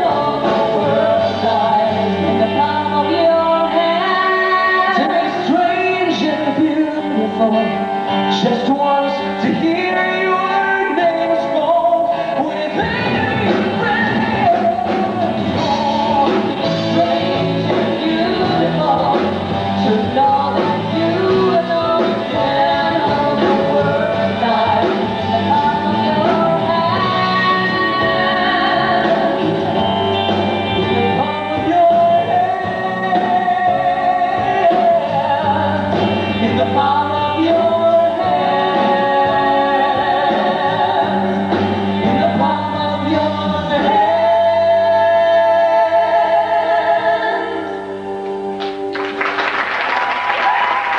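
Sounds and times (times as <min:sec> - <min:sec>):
man and woman singing duet: 0:00.0 - 0:48.2
live rock band: 0:00.0 - 0:50.9.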